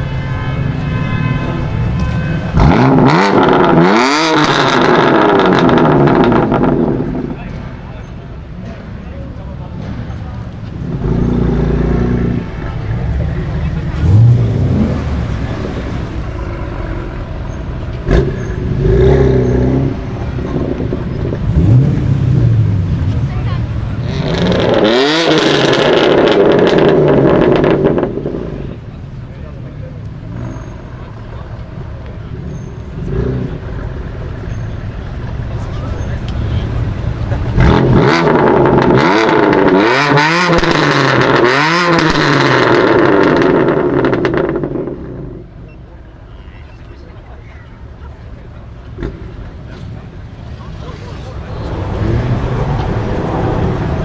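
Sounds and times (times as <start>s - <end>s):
car engine revving: 0.9s - 7.7s, 9.7s - 29.0s, 30.1s - 45.6s, 48.6s - 54.0s
exhaust crackles: 1.8s - 7.8s, 9.6s - 45.6s, 47.8s - 54.0s.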